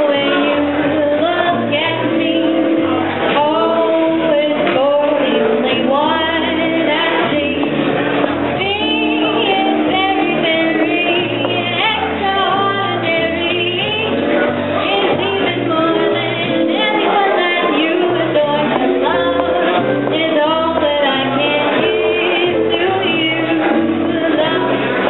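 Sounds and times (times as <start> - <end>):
drums: 0.0 - 25.0
electric guitar: 0.0 - 25.0
upright bass: 0.0 - 25.0
woman singing into a microphone: 0.0 - 25.0.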